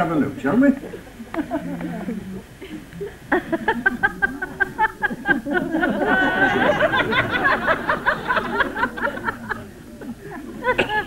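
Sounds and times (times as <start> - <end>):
audience laughing: 1.2 - 11.0.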